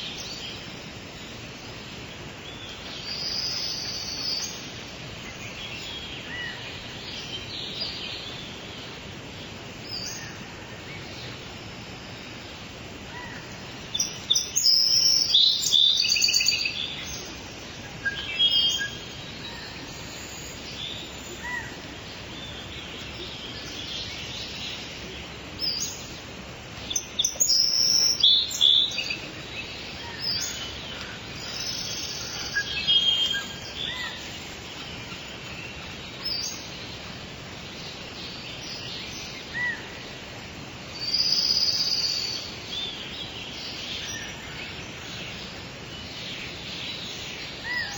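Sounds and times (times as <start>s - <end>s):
songbirds chirping and singing: 0.0s - 47.9s.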